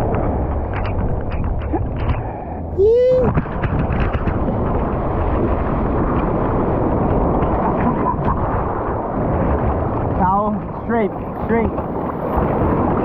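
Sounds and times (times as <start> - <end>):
surf water rushing and splashing: 0.0 - 13.0.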